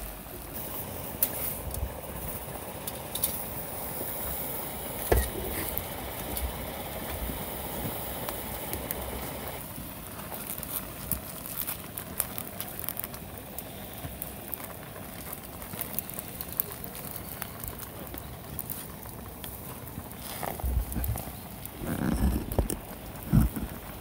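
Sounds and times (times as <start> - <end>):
wood fire crackling: 0.0 - 24.0
sharp pops from fire: 0.1 - 24.0.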